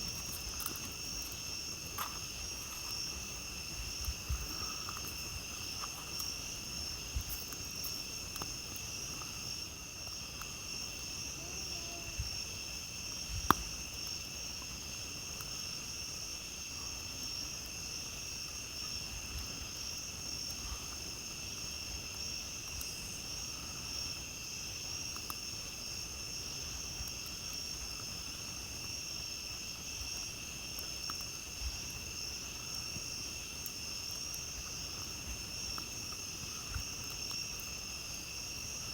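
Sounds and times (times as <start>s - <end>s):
campfire crackling: 0.0s - 38.9s
crickets trilling: 0.0s - 38.9s.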